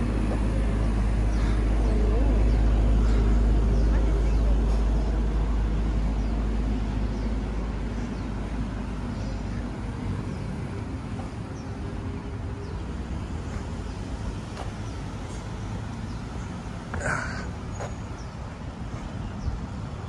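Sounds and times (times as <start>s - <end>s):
low rumble of road traffic: 0.0s - 20.0s.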